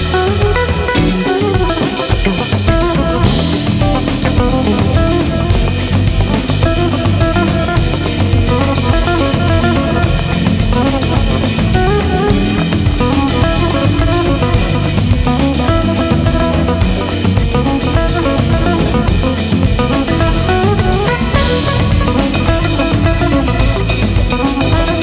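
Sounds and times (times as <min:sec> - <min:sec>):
music with drums and guitar: 0:00.0 - 0:25.0.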